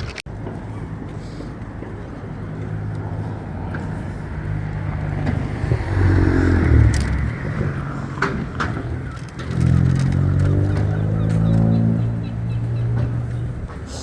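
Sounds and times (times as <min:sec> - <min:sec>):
vehicle engine passing by: 0:00.7 - 0:14.0.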